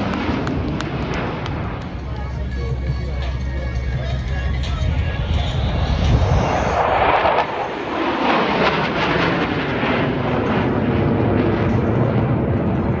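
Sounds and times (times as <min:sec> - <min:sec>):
fighter jets roaring overhead: 0:00.0 - 0:13.0.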